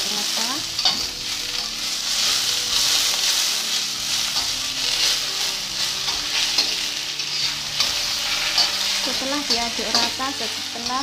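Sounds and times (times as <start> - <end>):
vegetables sizzling in hot oil: 0.0 - 11.0
spatula scraping a wok: 0.6 - 11.0.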